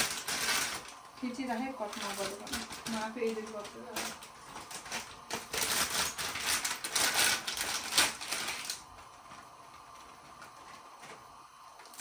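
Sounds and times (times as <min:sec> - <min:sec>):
plastic packet crinkling: 0:00.0 - 0:12.0
sharp plastic crackle: 0:00.0 - 0:12.0.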